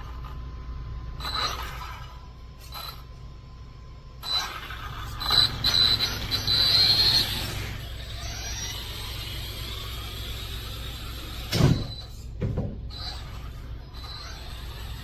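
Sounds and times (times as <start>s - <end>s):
rc truck rumbling: 0.0s - 15.0s.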